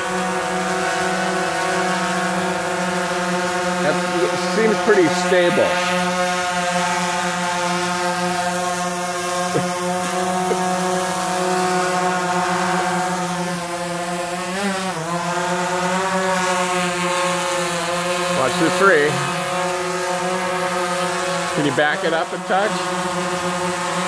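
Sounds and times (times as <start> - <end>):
quadcopter drone buzzing whine: 0.0 - 24.0.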